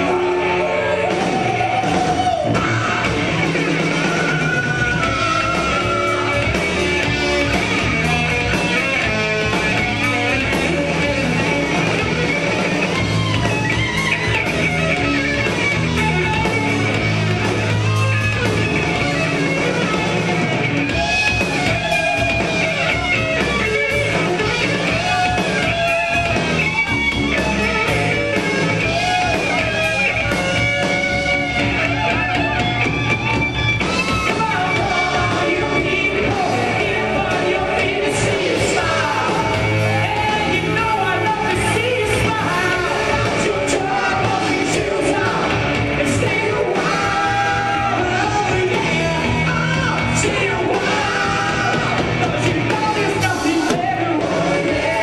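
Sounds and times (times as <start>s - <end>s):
drums: 0.0s - 55.0s
electric guitars: 0.0s - 55.0s.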